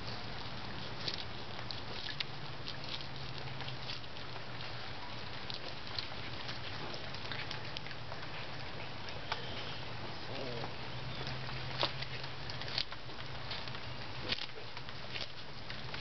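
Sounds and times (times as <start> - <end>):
tortoise chewing flowers: 0.0 - 16.0.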